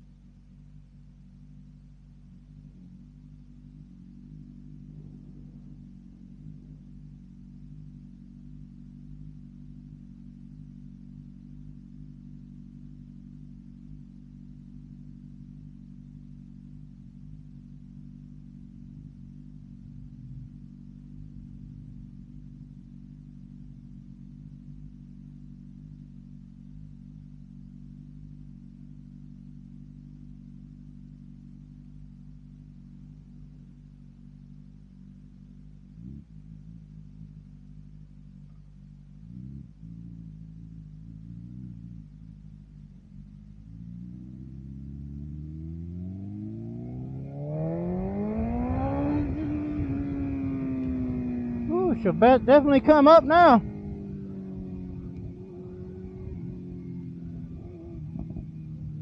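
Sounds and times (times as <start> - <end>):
motorcycle engine low drone: 0.0 - 59.0.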